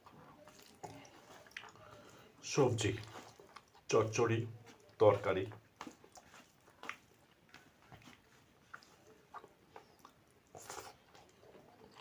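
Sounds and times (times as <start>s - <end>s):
person chewing soft food: 0.0s - 12.0s.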